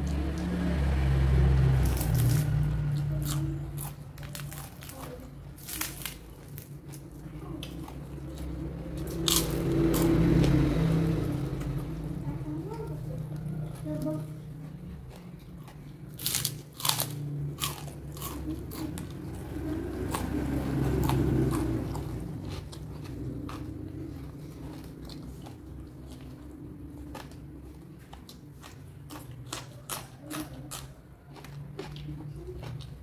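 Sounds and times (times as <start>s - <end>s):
person chewing crunchy food: 1.6s - 12.1s, 13.0s - 33.0s.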